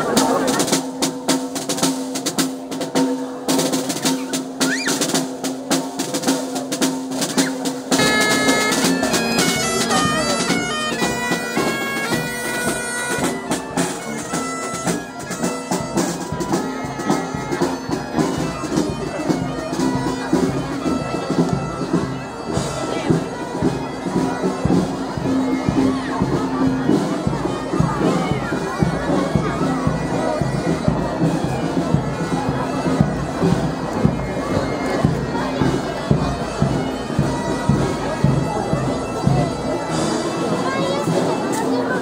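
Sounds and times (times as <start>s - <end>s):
bagpipes playing: 7.9s - 41.8s.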